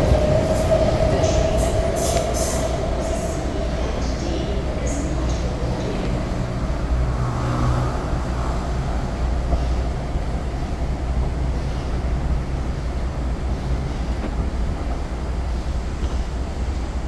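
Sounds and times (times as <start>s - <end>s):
low hum of city: 0.0s - 17.0s
train rumbling on elevated track: 0.0s - 17.0s.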